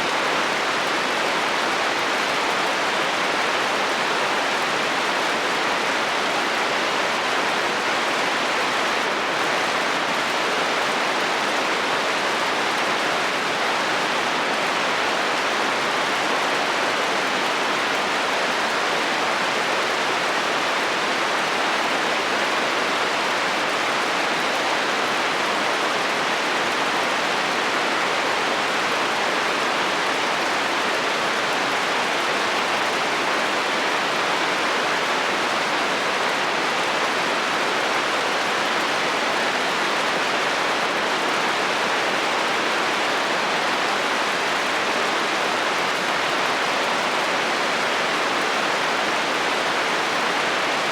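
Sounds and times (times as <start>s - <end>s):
rain on a metal roof: 0.0s - 50.9s.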